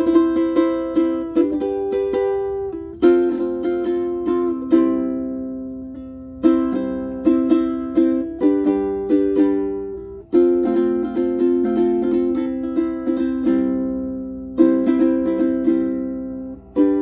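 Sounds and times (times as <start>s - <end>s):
ukulele plucked notes and chords: 0.0s - 17.0s.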